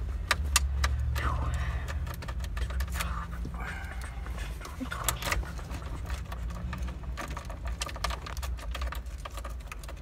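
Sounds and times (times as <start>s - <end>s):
key rattling in ignition lock: 0.2s - 10.0s.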